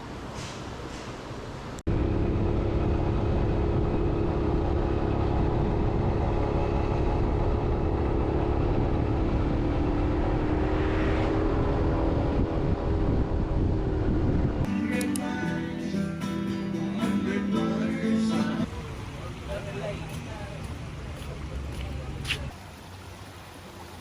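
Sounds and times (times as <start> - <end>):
vehicle engine running: 1.9 - 24.0.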